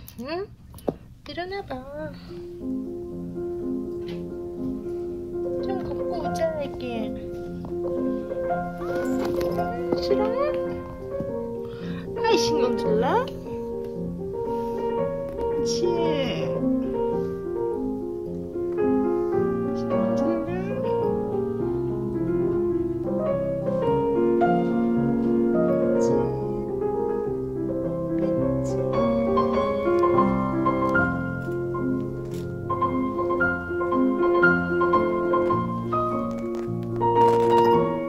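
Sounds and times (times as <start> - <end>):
gentle piano music: 1.6 - 38.0.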